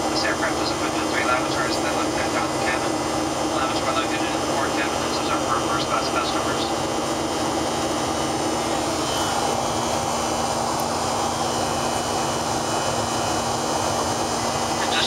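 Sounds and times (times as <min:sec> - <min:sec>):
airliner cabin engine hum: 0:00.0 - 0:15.0
constant low drone: 0:00.0 - 0:15.0.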